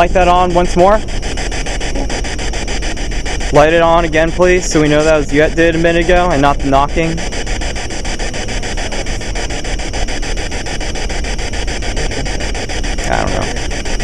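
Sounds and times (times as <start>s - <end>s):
loud steady hissing: 0.0s - 14.0s.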